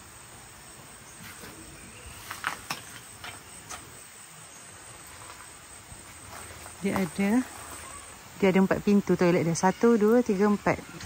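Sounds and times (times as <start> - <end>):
crickets chirring: 0.0 - 11.0
even hiss: 0.0 - 11.0.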